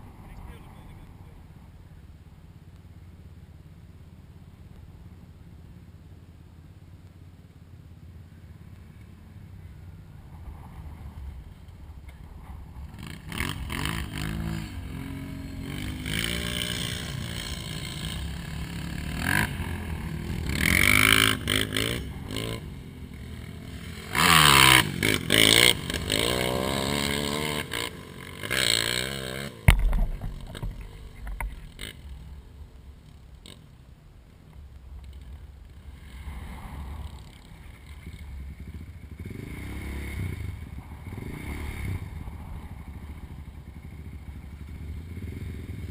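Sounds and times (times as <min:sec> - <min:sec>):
atv engines revving: 0:00.0 - 0:45.9.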